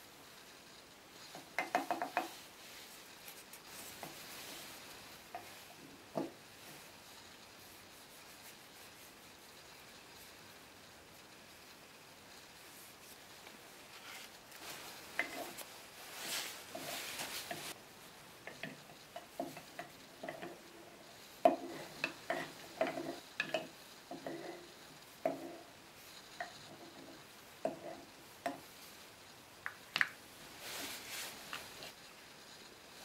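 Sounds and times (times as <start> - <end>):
rustling: 0.2 - 33.0.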